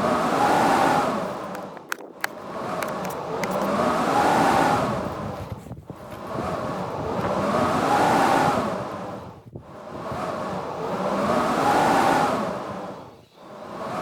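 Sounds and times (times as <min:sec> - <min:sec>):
blizzard wind gusting: 0:00.0 - 0:14.0.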